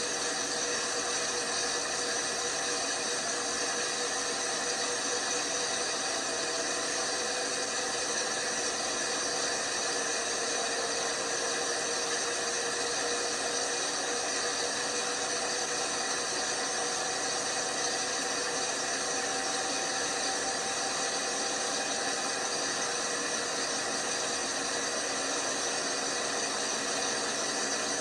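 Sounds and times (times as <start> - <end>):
washing machine whirring: 0.0 - 28.0.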